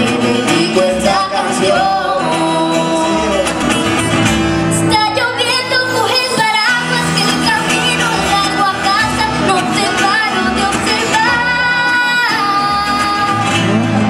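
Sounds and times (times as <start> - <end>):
acoustic guitars playing: 0.0 - 14.0.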